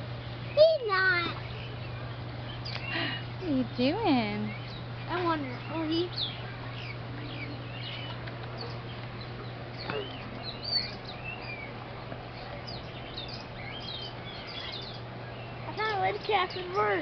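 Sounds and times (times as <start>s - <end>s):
birds chirping and whistling: 0.0s - 17.0s
steady low hum: 0.0s - 17.0s.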